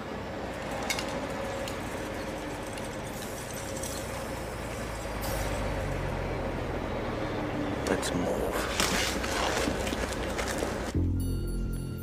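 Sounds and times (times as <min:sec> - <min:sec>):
vehicle engines rumbling: 0:00.0 - 0:11.9.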